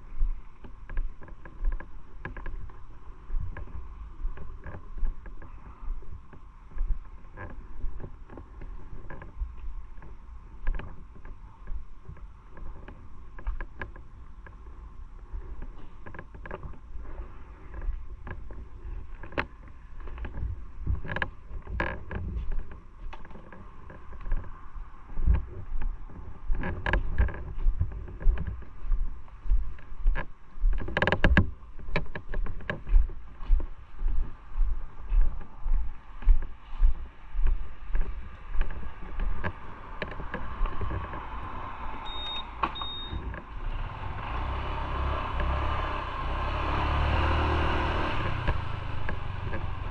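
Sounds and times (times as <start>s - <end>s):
motorcycle engine rumble: 0.0s - 49.9s.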